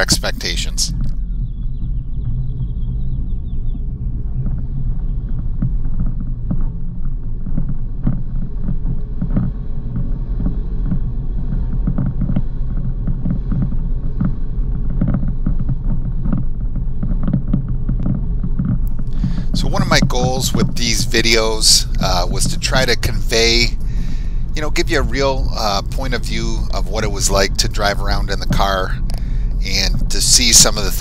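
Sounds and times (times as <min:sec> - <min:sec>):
car engine low rumble: 0:00.0 - 0:31.0
wind buffeting microphone: 0:00.0 - 0:31.0.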